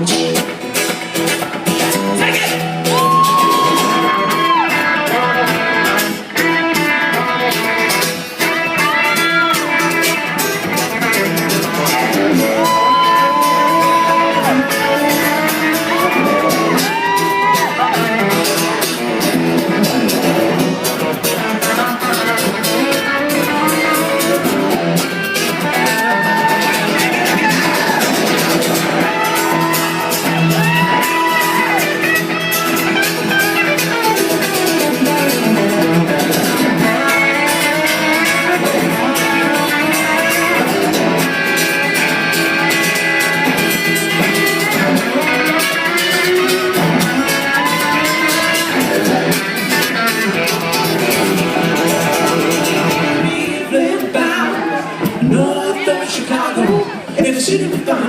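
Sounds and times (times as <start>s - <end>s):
electric guitar bending notes: 0.0s - 55.2s
live rock band playing: 0.0s - 58.0s.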